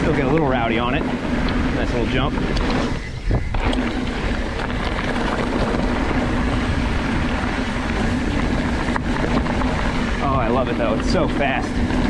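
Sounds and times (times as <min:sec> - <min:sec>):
tyres rolling over dirt: 0:00.0 - 0:12.0
wind rush on microphone: 0:00.0 - 0:12.0.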